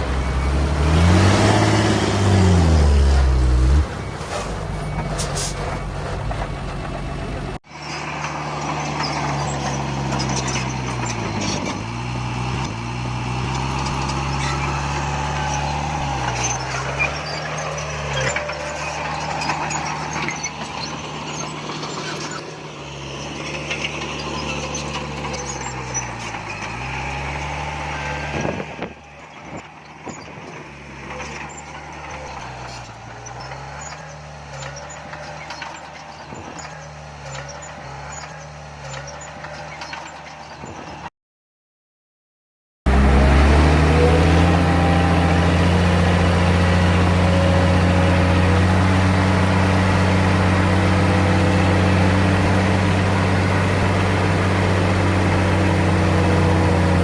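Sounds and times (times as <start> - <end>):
diesel earthmoving machinery engine: 0.0 - 41.1, 42.9 - 57.0.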